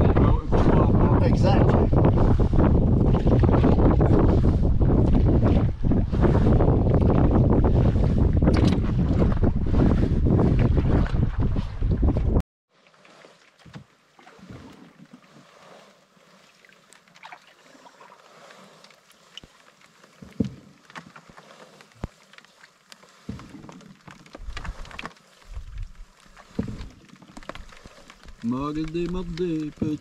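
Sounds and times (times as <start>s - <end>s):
paddling water sounds: 0.0s - 30.0s.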